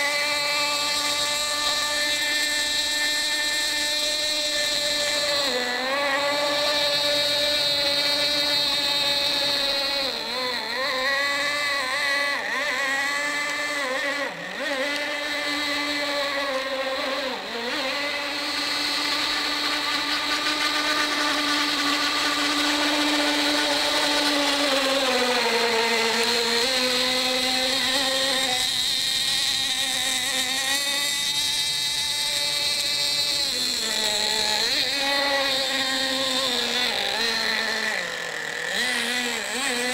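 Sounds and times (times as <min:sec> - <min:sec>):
model boat motor whining: 0:00.0 - 0:39.9.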